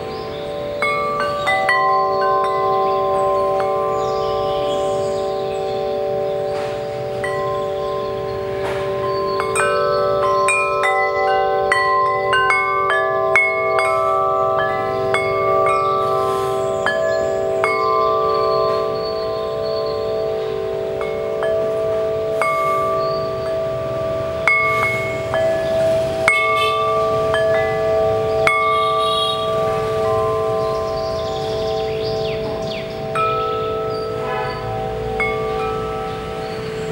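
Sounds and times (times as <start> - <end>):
wind chime ringing: 0.0 - 36.9.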